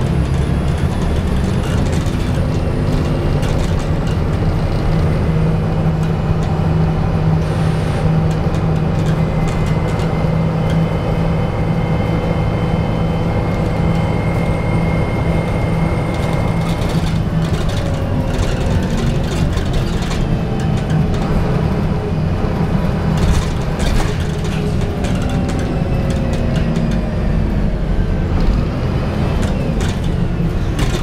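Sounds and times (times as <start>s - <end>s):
bus diesel engine drone: 0.0s - 31.0s
bus interior rattles: 0.0s - 31.0s.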